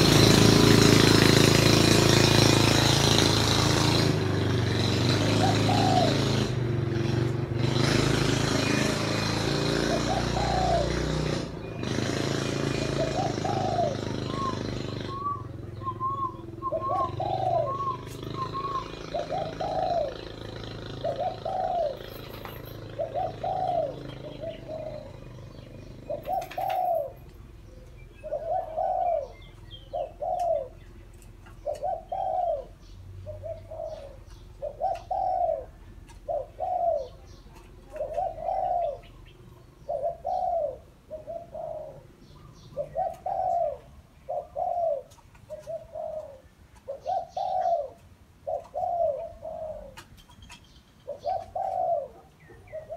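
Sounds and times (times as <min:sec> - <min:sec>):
dove cooing: 0:05.2 - 0:07.2, 0:07.9 - 0:52.9.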